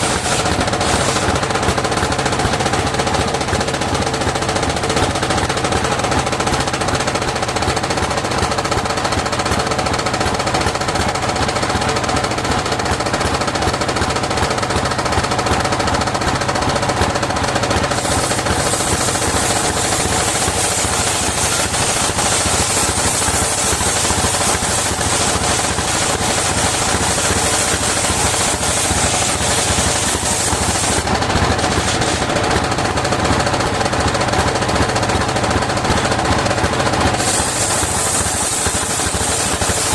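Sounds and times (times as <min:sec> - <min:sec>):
engine knocking rapidly: 0:00.0 - 0:39.9.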